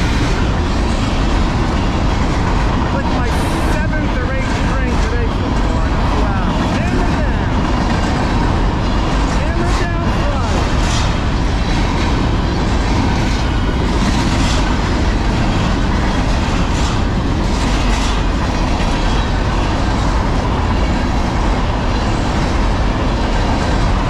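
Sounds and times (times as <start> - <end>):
train wheels rumbling on rails: 0.0 - 24.0
wheels clacking over rail joints: 0.0 - 24.0.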